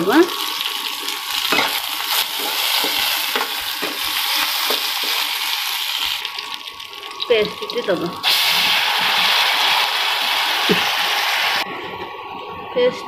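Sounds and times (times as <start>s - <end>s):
onions frying in oil: 0.0s - 11.7s.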